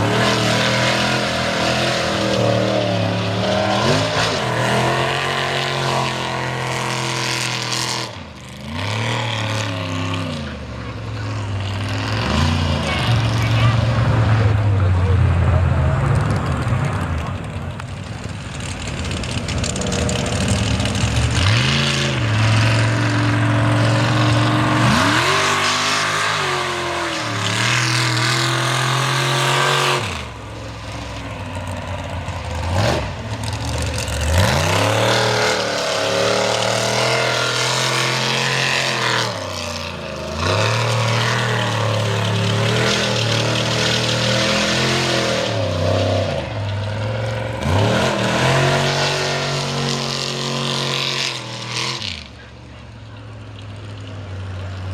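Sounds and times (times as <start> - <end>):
truck engine revving hard: 0.0 - 52.5.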